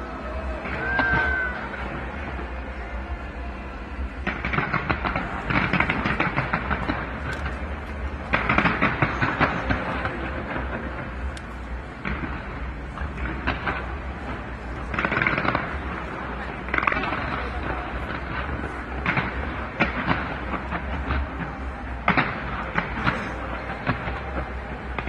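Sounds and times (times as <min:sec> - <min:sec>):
fireworks crackling: 0:00.0 - 0:25.0
steady low rumble: 0:00.0 - 0:25.0.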